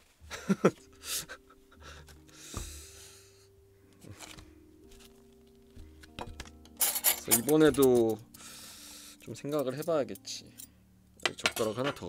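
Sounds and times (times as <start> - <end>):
quiet background music: 0.1 - 12.0.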